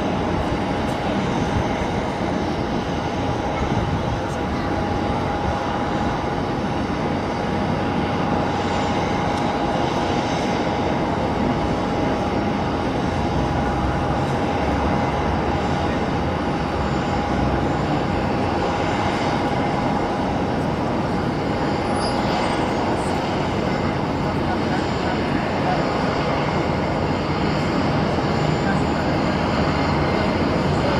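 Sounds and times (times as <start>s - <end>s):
jet engine and airflow rumble: 0.0s - 30.9s.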